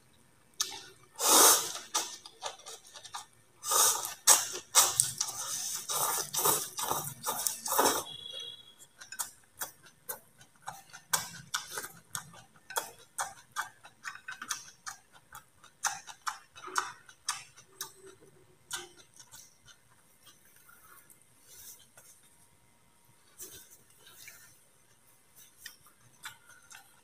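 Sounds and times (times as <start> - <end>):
person chewing food: 0.5 - 22.4, 23.2 - 27.0.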